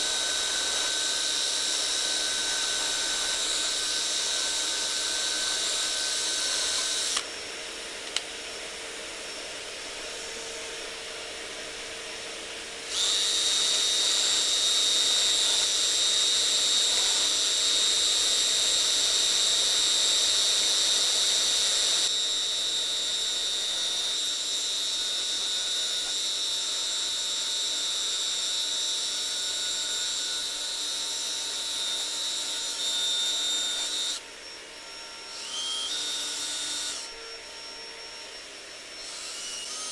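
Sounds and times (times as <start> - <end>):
power drill motor whine: 0.0 - 39.9.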